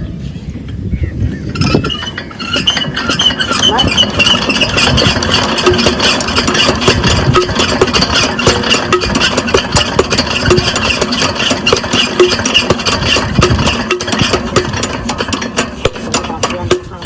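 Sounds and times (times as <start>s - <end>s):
diesel engine running: 2.0s - 17.0s.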